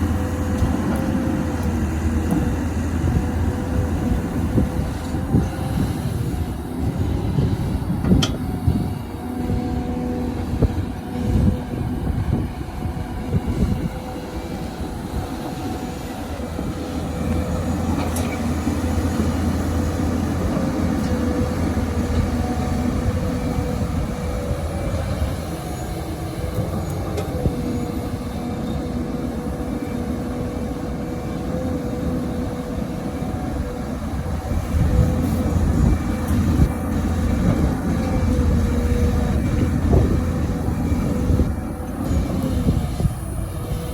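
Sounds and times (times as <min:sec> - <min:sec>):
excavator diesel engine under load: 0:00.0 - 0:43.9.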